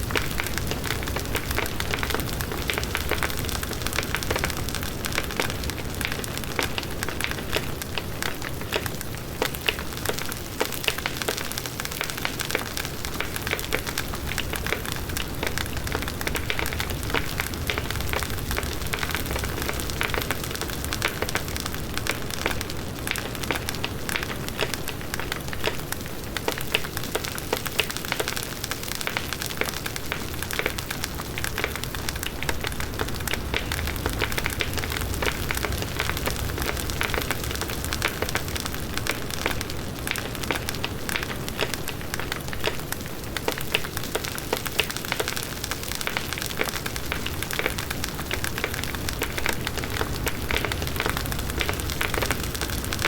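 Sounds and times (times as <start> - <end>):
wood crackling and popping: 0.0 - 53.0.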